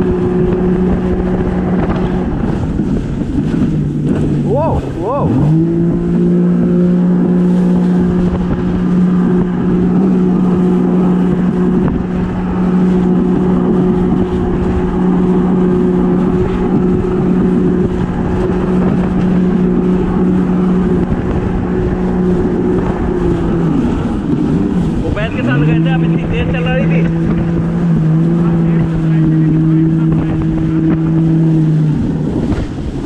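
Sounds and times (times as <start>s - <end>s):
jet ski engine running: 0.0s - 33.0s
rush of water and wind: 0.0s - 33.0s.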